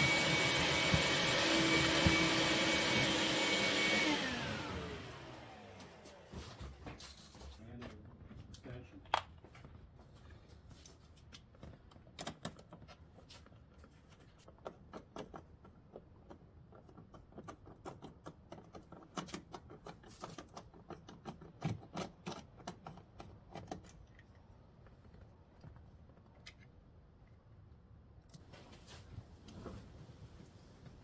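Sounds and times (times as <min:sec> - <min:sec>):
clicks and rattles of wires and tools: 0:05.8 - 0:31.0.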